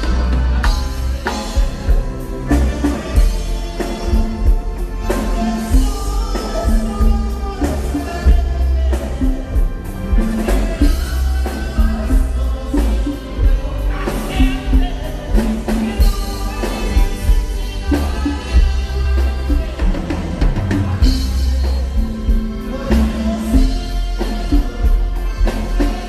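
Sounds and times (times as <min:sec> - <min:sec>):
button accordion: 0:00.0 - 0:26.0
congas: 0:00.0 - 0:26.0
drum kit: 0:00.0 - 0:26.0
heavy bass: 0:00.0 - 0:26.0
man singing: 0:00.0 - 0:26.0.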